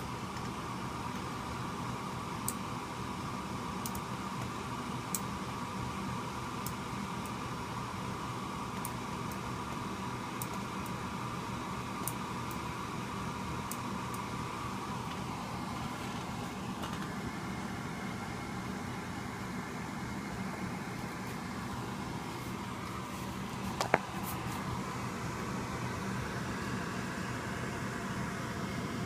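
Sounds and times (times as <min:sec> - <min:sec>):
fan-like mechanical hum: 0:00.0 - 0:29.0.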